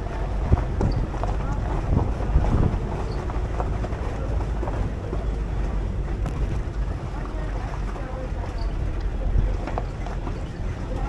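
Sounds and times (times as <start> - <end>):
vehicle road noise rumble: 0.0 - 11.0
wind buffeting microphone: 0.0 - 11.0.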